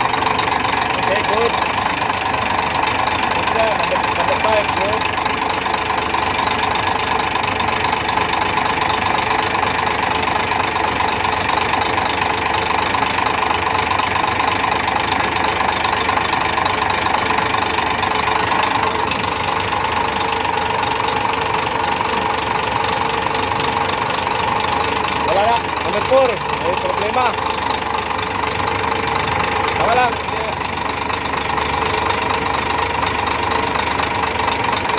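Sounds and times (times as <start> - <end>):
diesel engine idling with knock: 0.0 - 34.9.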